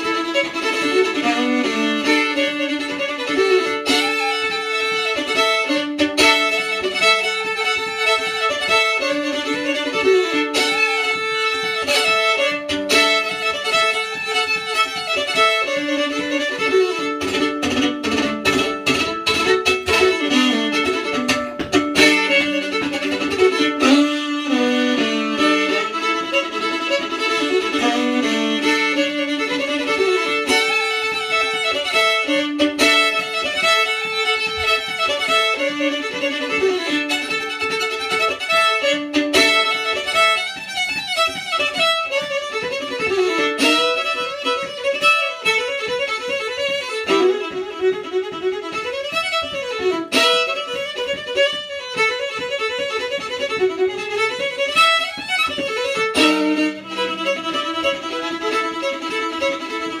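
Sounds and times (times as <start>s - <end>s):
fiddle playing folk tune: 0.0s - 60.0s.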